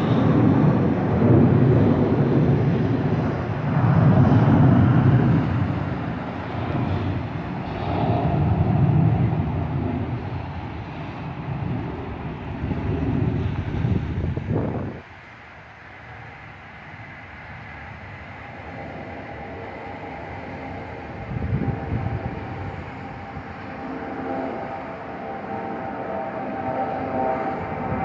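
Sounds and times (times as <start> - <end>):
jet airliner passing overhead: 0.0 - 28.0.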